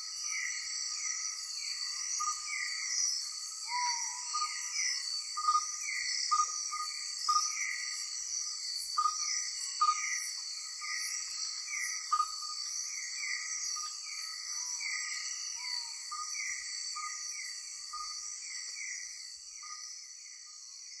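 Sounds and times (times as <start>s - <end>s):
insect chirps: 0.0s - 21.0s.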